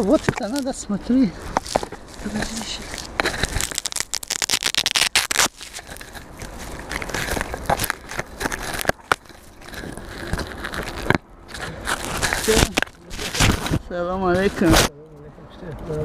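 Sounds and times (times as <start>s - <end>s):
drone rubbing against clothing and leaves: 0.0s - 14.9s.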